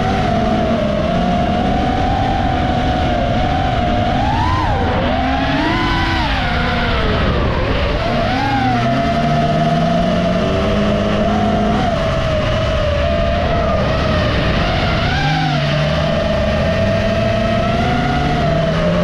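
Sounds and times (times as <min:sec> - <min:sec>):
high whine: 0:00.0 - 0:19.0
race car engines revving: 0:00.0 - 0:19.0.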